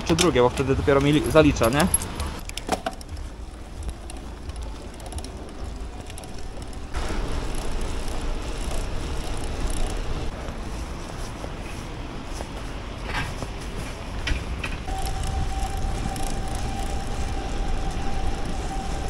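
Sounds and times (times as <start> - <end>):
bicycle road rumble: 0.0 - 19.0.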